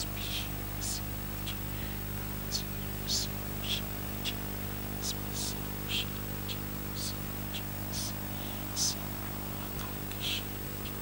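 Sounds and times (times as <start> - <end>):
electrical hum: 0.0 - 11.0
whispered prayer into microphone: 0.0 - 11.0.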